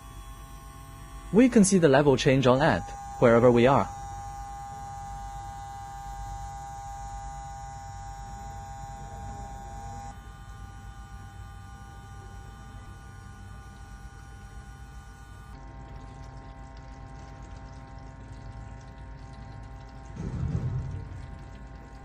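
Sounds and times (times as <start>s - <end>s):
electric water pump humming: 0.0s - 22.0s.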